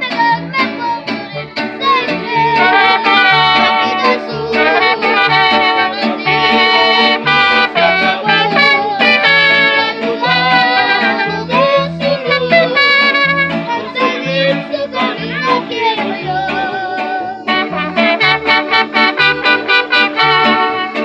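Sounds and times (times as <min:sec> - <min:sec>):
boy singing: 0:00.0 - 0:21.0
live band music: 0:00.0 - 0:21.0.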